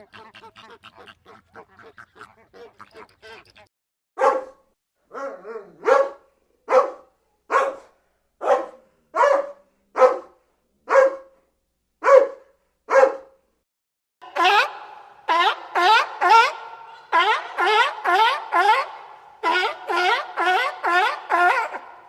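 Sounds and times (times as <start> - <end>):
dog barking: 0.0 - 3.6, 4.2 - 11.4, 12.0 - 13.4, 15.8 - 22.0.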